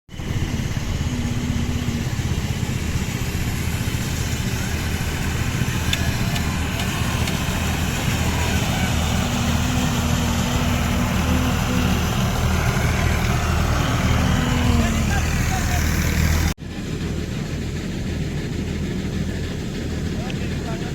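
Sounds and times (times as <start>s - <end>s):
tractor engine rumbling: 0.1s - 20.9s.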